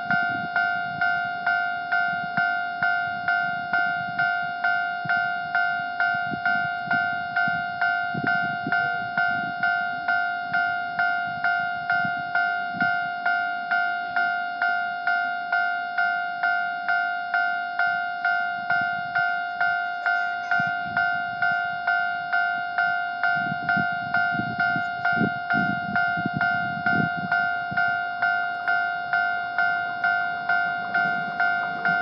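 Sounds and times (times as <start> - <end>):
level crossing warning bell: 0.0 - 32.0.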